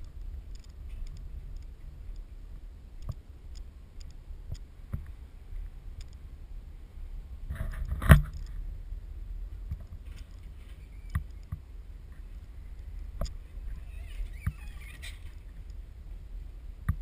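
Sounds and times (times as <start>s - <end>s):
low handling rumble: 0.0s - 17.0s.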